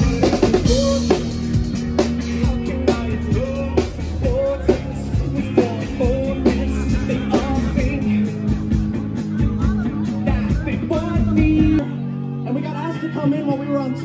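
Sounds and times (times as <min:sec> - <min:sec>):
person singing: 0:00.0 - 0:12.2
live rock band playing: 0:00.0 - 0:14.0.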